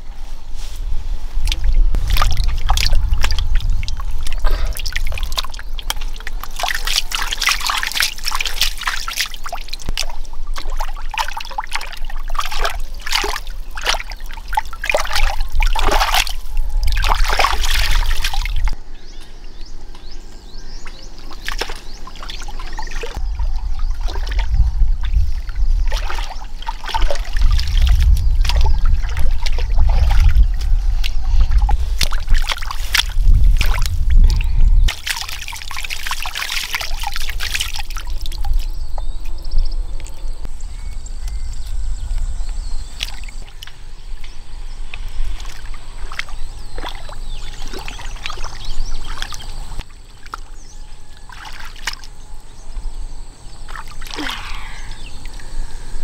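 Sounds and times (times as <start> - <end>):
hands squelching through mud: 1.4 - 18.8, 20.8 - 39.4, 40.9 - 52.2, 53.6 - 55.1.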